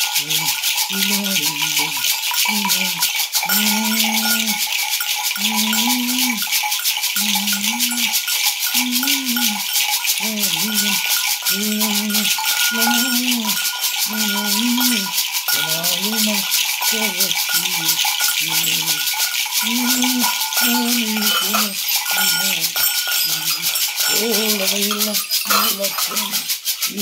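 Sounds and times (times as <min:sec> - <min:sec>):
maracas with bells rattling: 0:00.0 - 0:27.0
person chanting: 0:00.0 - 0:27.0.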